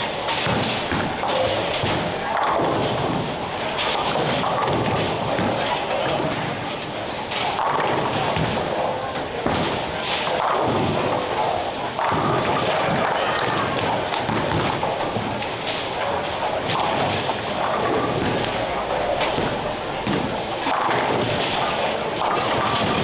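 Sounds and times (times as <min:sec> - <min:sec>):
bowling balls and pins clattering: 0:00.0 - 0:23.0.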